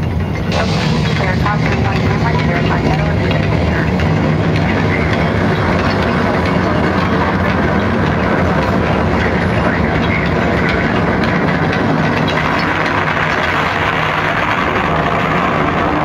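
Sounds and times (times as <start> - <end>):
rumbling soundtrack over loudspeakers: 0.0 - 16.0.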